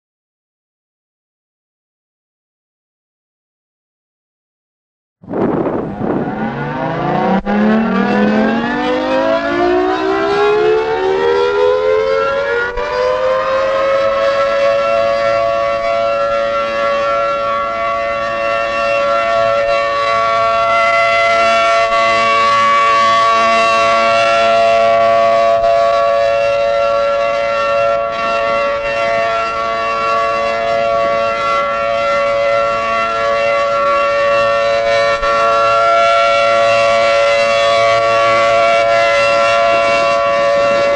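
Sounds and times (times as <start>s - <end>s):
civil defense siren wailing: 5.2s - 40.9s.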